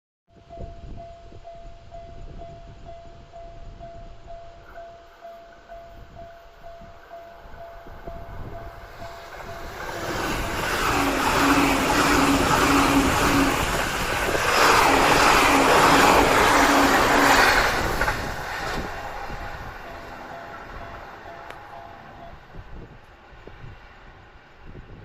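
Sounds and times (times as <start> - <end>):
level crossing warning bell: 0.4 - 13.7, 14.5 - 22.9
train passing at speed: 1.4 - 25.0.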